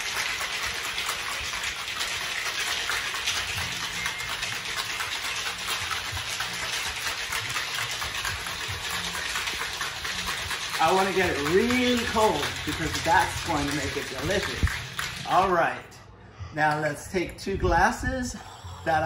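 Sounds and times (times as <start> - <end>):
ice rattling in cocktail shaker: 0.0 - 15.6.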